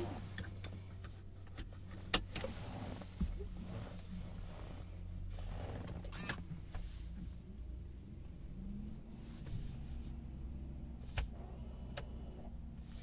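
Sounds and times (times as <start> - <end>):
low hum inside car cabin: 0.0 - 13.0.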